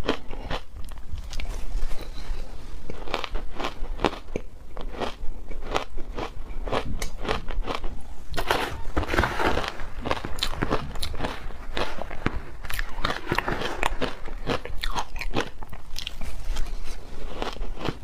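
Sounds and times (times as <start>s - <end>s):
shaved ice crunching while chewed: 2.9s - 18.0s.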